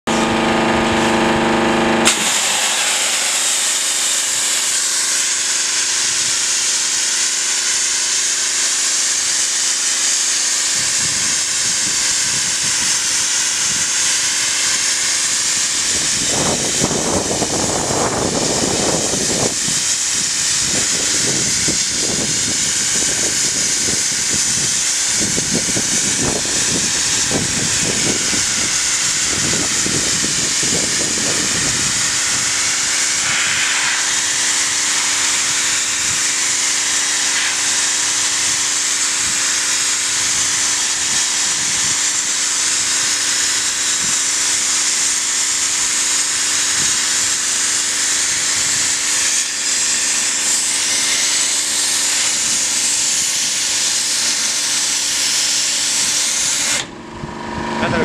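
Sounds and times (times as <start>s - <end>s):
pressure washer pump humming: 0.0s - 58.0s
water jet hissing: 0.1s - 57.0s
jet spattering on steel wall: 2.0s - 56.9s.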